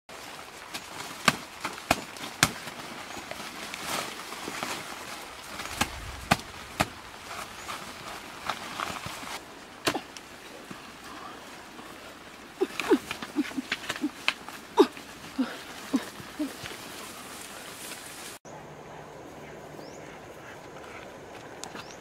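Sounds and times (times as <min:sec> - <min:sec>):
rustling of leaves and litter: 0:00.1 - 0:18.4.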